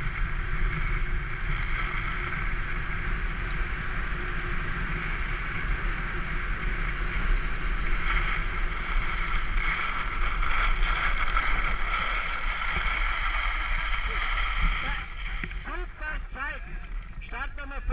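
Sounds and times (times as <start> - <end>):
skis scraping on snow: 0.0 - 16.6.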